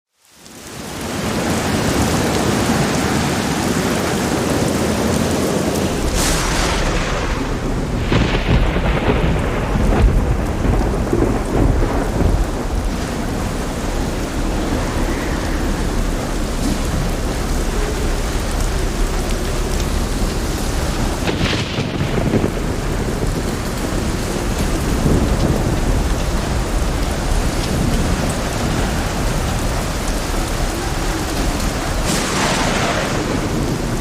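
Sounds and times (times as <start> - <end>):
steady rain: 0.1 - 34.0
thunder crack and rumble: 0.6 - 34.0.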